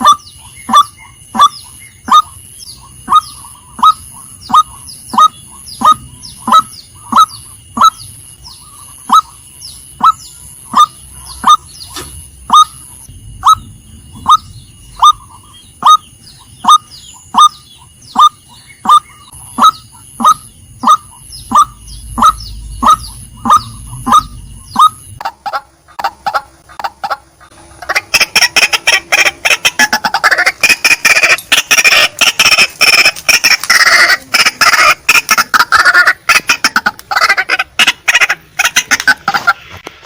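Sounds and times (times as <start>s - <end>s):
waterhen calling: 0.0s - 9.4s, 10.0s - 39.8s.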